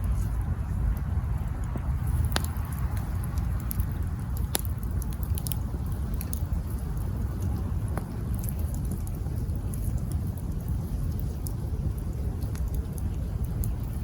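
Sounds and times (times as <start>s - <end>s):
campfire rumble and crackles: 0.0s - 14.0s
sharp pops of burning wood: 0.0s - 14.0s.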